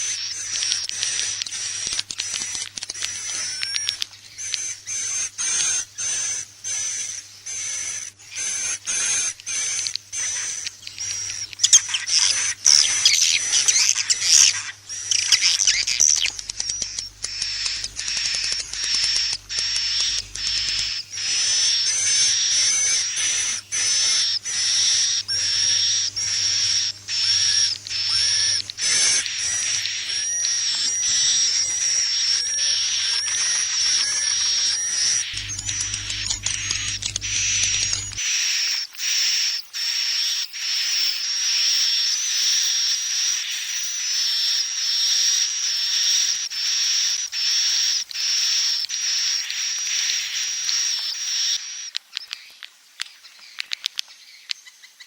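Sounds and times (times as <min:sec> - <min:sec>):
swiftlets twittering chirps: 0:00.0 - 0:51.9.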